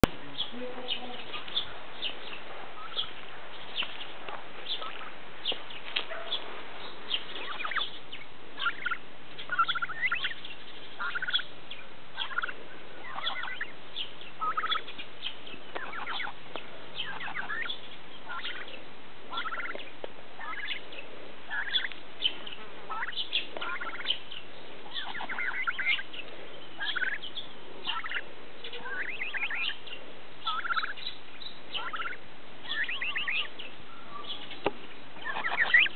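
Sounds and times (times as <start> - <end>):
turkey hen peeping: 0.0 - 35.9.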